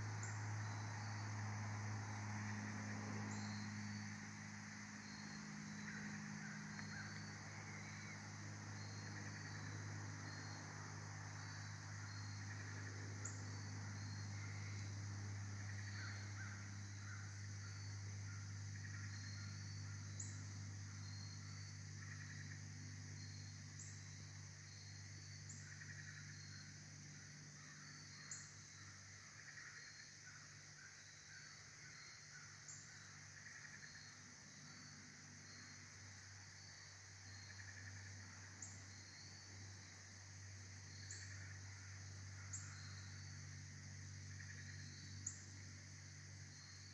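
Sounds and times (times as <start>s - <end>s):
insect chirp: 0.0s - 46.9s
insect drone: 0.0s - 46.9s
low steady hum: 0.0s - 46.9s.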